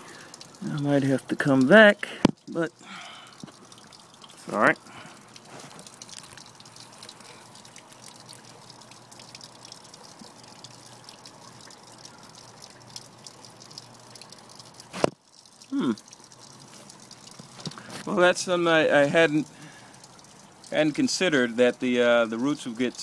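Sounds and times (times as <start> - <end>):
water dripping and trickling: 0.0 - 23.0.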